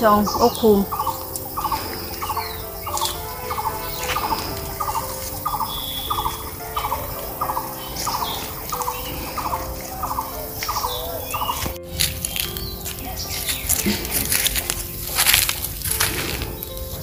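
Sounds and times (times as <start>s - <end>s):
high chirps: 0.0s - 16.6s
background music of held tones: 0.0s - 17.0s.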